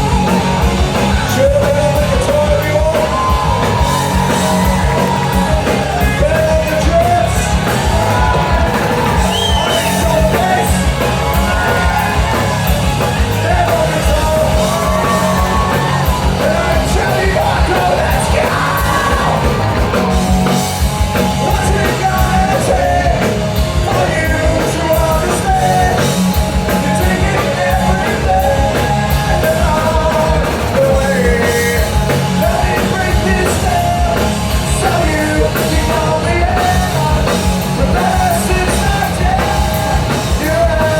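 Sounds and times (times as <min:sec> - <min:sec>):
rock band playing live: 0:00.0 - 0:40.9
singer yelling vocals: 0:00.0 - 0:40.9.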